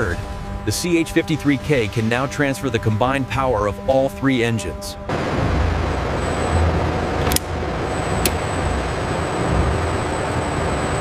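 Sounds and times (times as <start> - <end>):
faint high whine: 0.0 - 11.0
heavy machinery rumble: 0.0 - 11.0.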